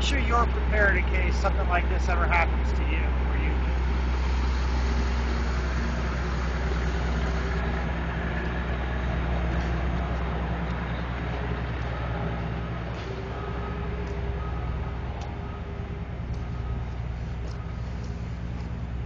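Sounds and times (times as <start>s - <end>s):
heavy vehicle engine idling: 0.0s - 19.0s.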